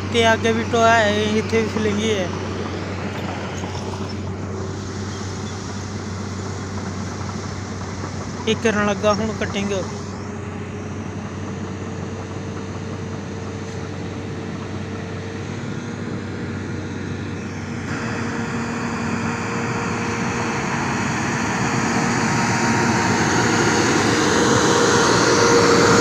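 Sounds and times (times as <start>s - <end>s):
grader diesel engine running: 0.0s - 26.0s.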